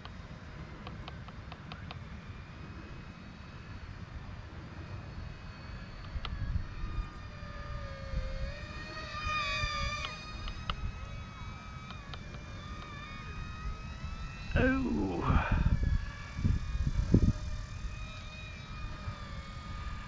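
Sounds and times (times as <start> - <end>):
model plane motor whine: 0.0 - 20.0.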